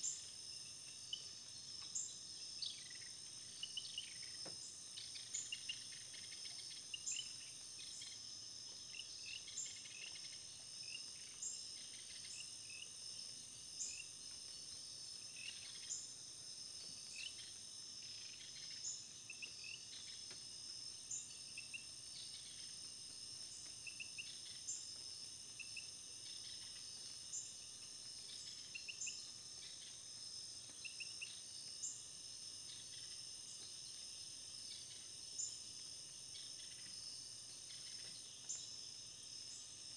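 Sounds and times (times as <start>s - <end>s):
insect chorus trilling: 0.0s - 39.9s
short insect chirps: 0.0s - 39.9s.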